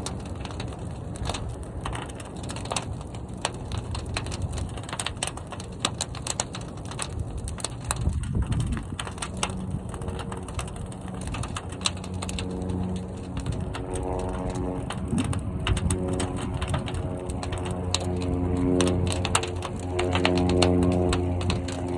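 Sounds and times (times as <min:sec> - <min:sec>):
fire crackling and popping: 0:00.0 - 0:21.9
steady low hum: 0:00.0 - 0:21.9.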